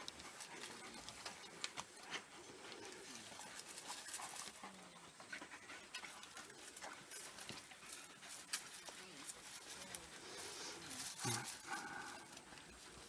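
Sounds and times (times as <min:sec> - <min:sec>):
wild dogs chewing and tearing: 0:00.0 - 0:13.0.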